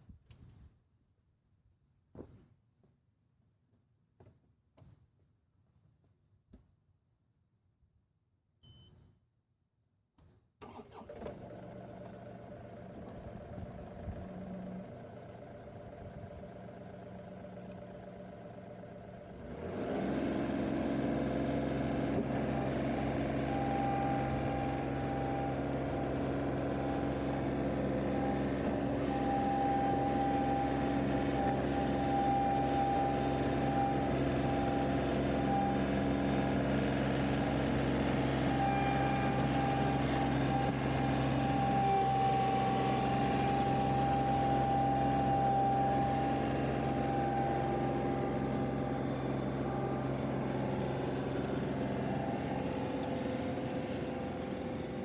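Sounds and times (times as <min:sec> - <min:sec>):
tractor diesel engine running: 0:10.6 - 0:55.0.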